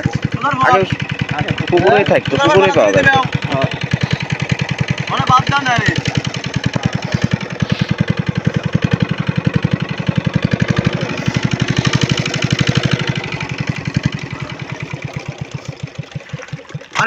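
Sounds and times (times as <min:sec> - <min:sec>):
small engine with rapid knock: 0:00.0 - 0:17.0.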